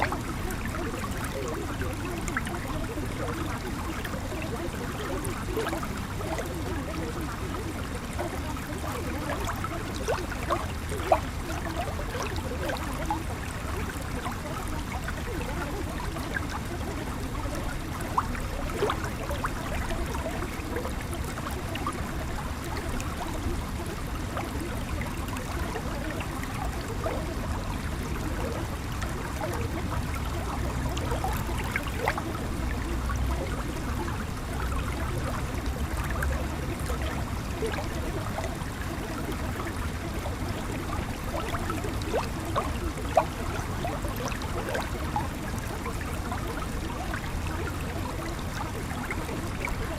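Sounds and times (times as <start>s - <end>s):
stream water gurgling: 0.0s - 49.9s.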